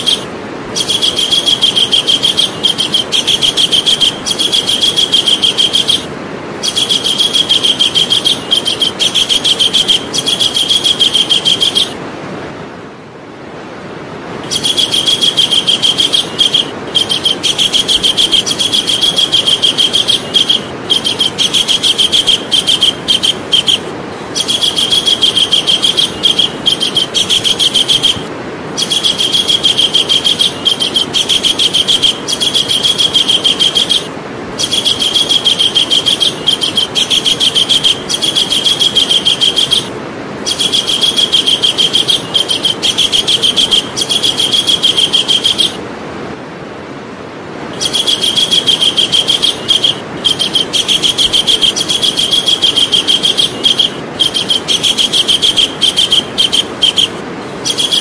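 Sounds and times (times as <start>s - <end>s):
kingfisher shrill repeated calls: 0.0s - 12.0s, 14.4s - 45.8s, 47.8s - 58.0s
steady hiss: 0.0s - 58.0s.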